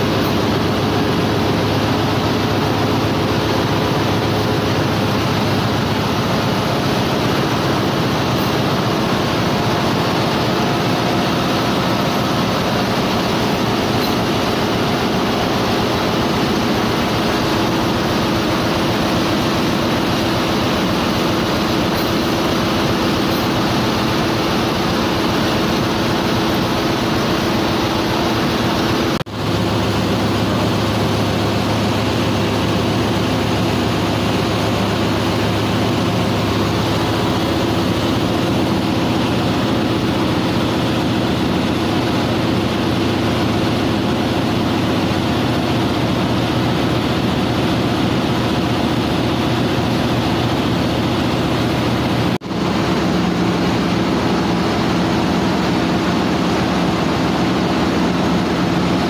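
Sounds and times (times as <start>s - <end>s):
ship engine room machinery drone: 0.0s - 59.0s.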